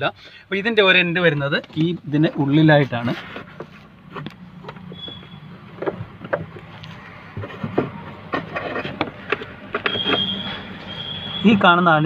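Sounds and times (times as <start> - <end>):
hands handling parts: 1.2 - 11.7.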